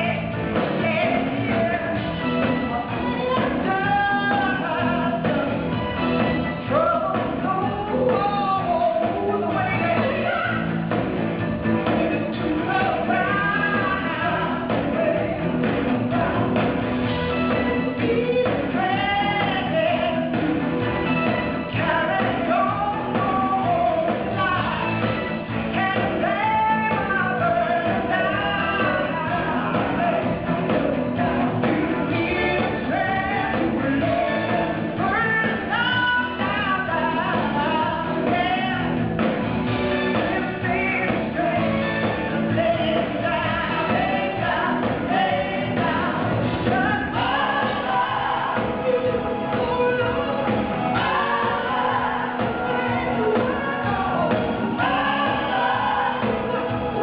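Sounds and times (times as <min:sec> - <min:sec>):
live band playing pop-rock: 0:00.0 - 0:57.0
woman singing: 0:00.0 - 0:57.0.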